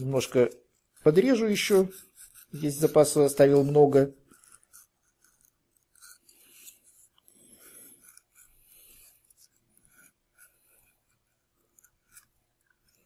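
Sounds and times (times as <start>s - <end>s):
knife scratching wood: 0.0s - 13.0s.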